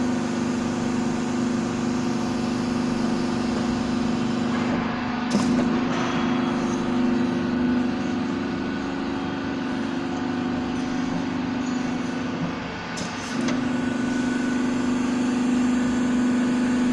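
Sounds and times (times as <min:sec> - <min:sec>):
machine humming: 0:00.0 - 0:16.9.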